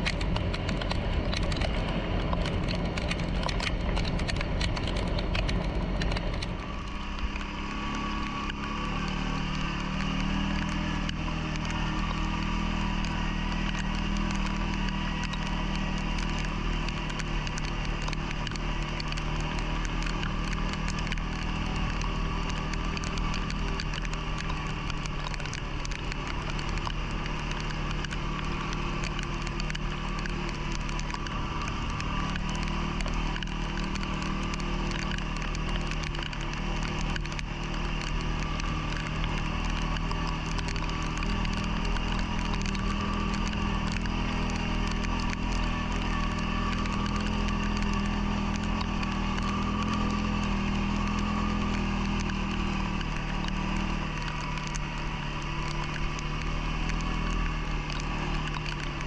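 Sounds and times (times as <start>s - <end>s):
atv engine humming: 0.0s - 59.0s
crackling and clicking: 0.0s - 59.0s.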